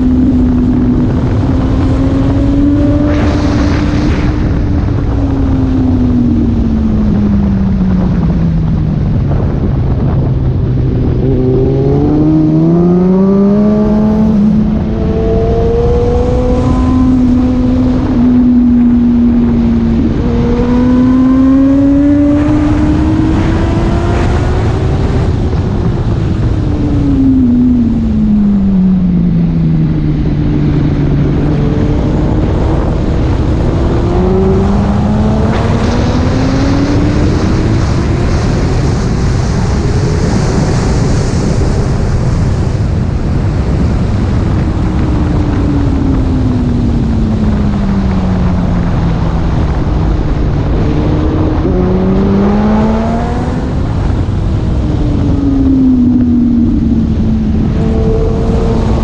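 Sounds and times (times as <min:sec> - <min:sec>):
motorcycle engine at speed: 0:00.0 - 0:59.0
wind rush: 0:00.0 - 0:59.0.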